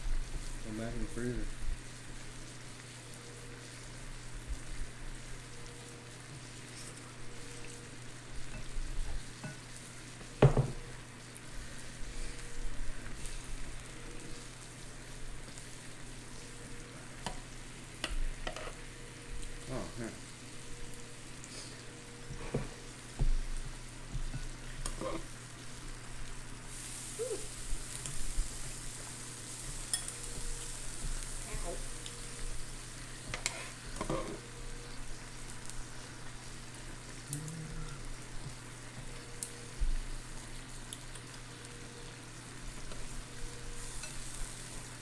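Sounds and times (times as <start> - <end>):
food sizzling on grill: 0.0 - 45.0.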